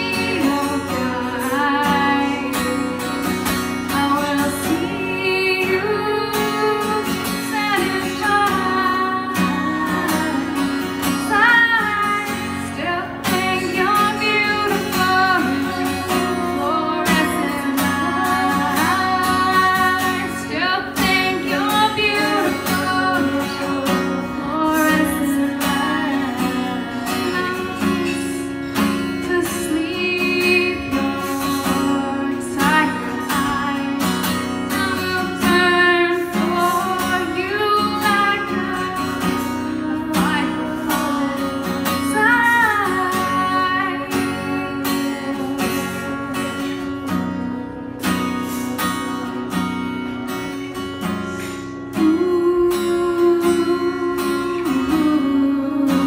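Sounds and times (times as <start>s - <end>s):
strummed acoustic guitar: 0.0s - 56.0s
woman singing: 0.0s - 56.0s.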